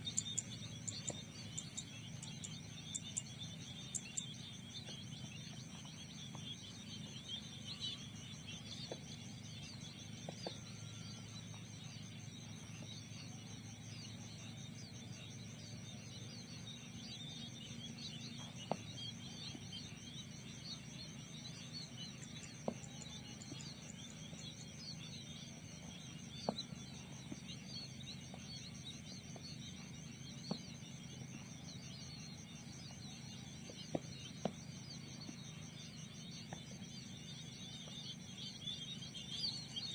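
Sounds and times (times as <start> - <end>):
low steady hum: 0.0 - 39.9
pulsing insect trill: 0.0 - 39.9
small birds chirping: 0.0 - 39.9.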